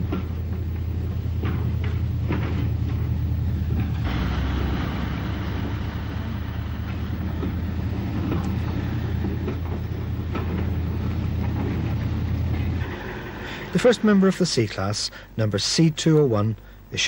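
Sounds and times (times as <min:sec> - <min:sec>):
rail clicks: 0:00.0 - 0:15.1
train rumbling on rails: 0:00.0 - 0:15.4.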